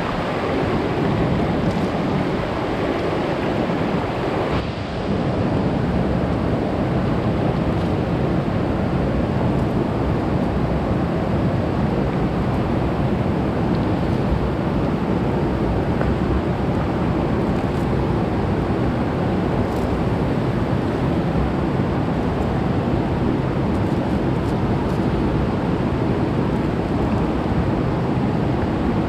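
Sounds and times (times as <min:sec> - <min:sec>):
river rushing over stones: 0:00.0 - 0:29.0.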